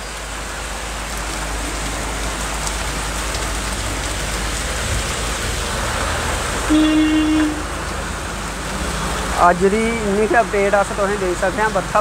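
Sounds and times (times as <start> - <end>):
heavy rain on pavement: 0.0 - 12.0.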